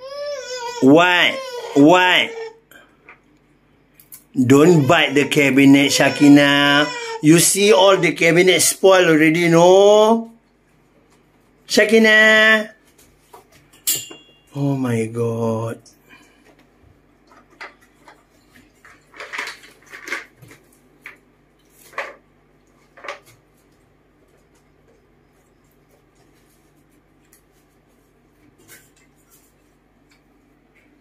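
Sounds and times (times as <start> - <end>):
faint room hum: 0.0 - 31.0.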